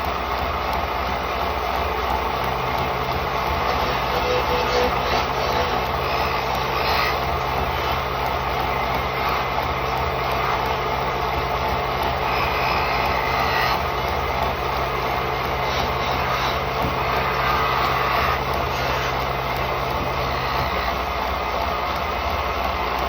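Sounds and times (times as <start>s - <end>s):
wood lathe running: 0.0s - 23.0s.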